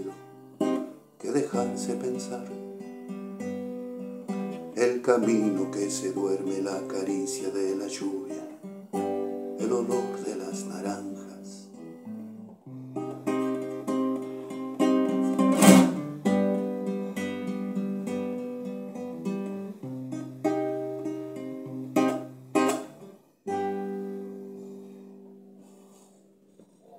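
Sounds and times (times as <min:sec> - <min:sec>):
classical guitar playing: 0:00.0 - 0:26.0.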